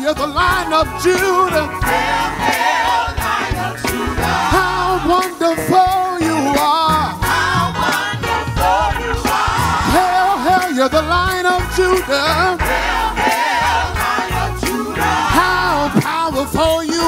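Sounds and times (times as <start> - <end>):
man singing lead: 0.0 - 2.5, 3.2 - 8.7, 9.6 - 13.4, 14.3 - 17.0
backing singers singing: 0.0 - 17.0
band playing: 0.0 - 17.0.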